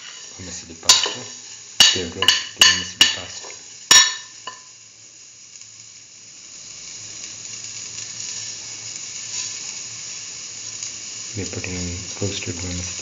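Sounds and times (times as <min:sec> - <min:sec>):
vegetables sizzling in hot fat: 0:00.0 - 0:13.0.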